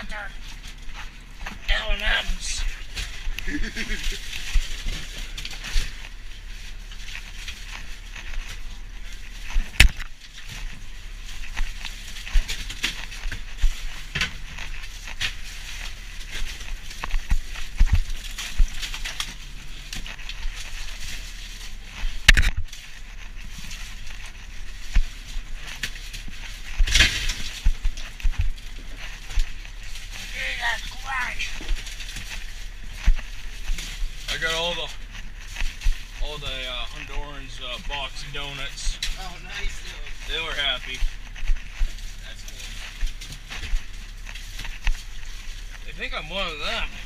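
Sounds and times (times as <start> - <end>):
ice crunching and scraping: 0.0 - 47.0
low steady hum: 0.0 - 47.0.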